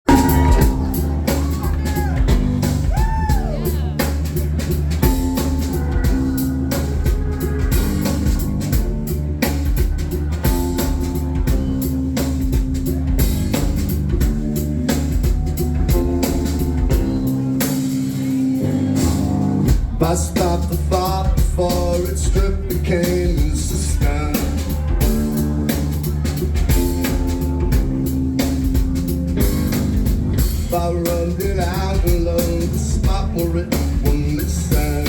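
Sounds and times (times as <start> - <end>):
bass line: 0.0 - 35.0
drum kit beat: 0.0 - 35.0
guitar: 0.0 - 35.0.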